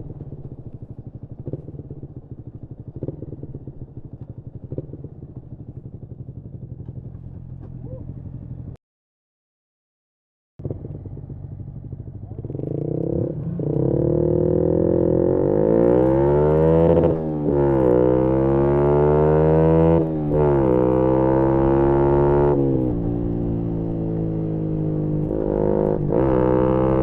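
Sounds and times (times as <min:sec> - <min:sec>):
motorcycle engine accelerating: 0:00.0 - 0:08.8, 0:10.6 - 0:27.0.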